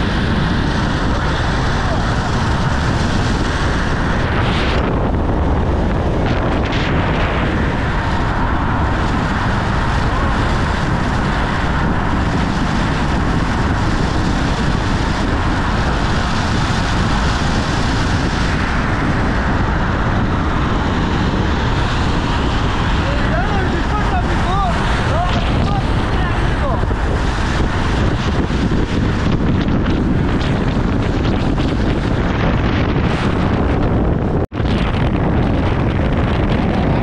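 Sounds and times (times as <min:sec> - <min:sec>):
car road noise: 0:00.0 - 0:37.0
wind rumbling on microphone: 0:00.0 - 0:37.0.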